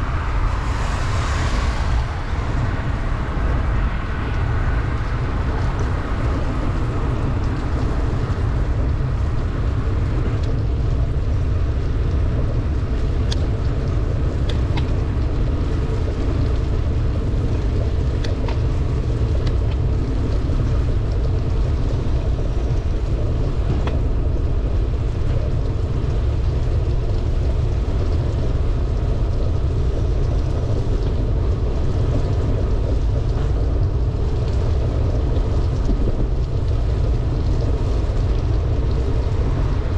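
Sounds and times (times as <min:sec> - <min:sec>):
rain hiss on wet road: 0:00.0 - 0:39.9
wind rumble on microphone: 0:00.0 - 0:39.9.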